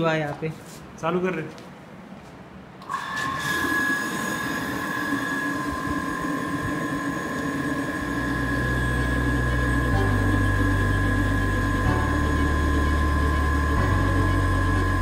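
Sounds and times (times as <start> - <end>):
motor two-tone whine: 2.8 - 15.0.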